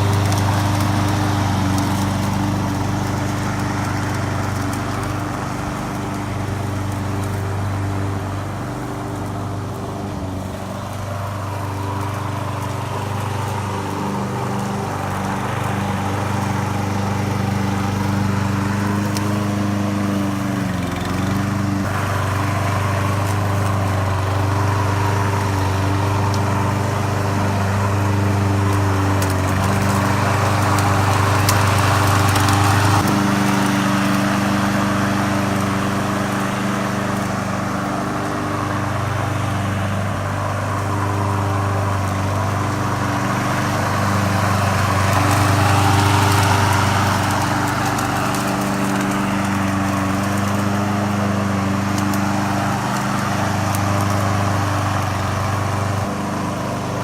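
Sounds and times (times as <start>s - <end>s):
mower engine humming: 0.0s - 57.0s.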